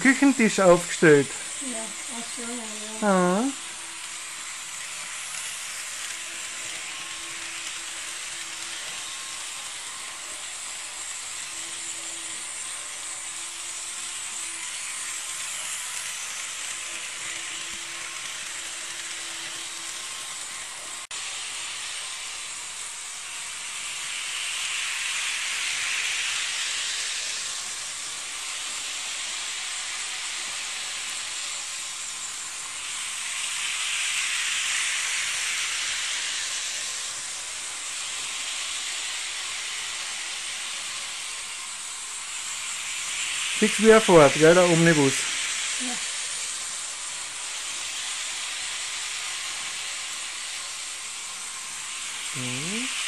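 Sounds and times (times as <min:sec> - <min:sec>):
model trains running on track: 0:00.0 - 0:53.0.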